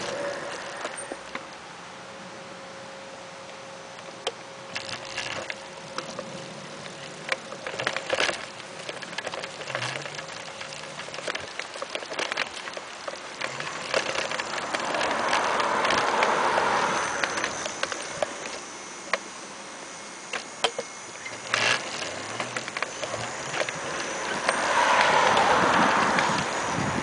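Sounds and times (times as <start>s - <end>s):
bike tyres and frame rattling: 0.0s - 1.5s, 4.0s - 19.4s, 20.3s - 27.0s
faint steady whine: 0.0s - 27.0s.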